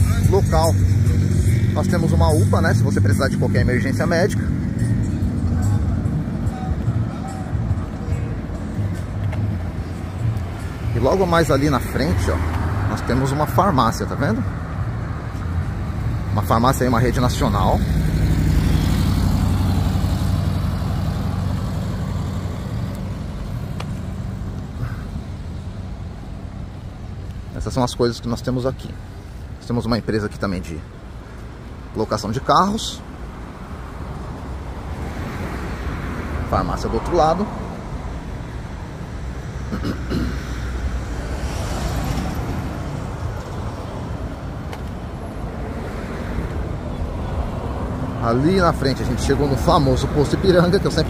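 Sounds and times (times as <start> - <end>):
passing vehicle engine rumble: 0.0 - 51.0
road traffic: 0.0 - 51.0.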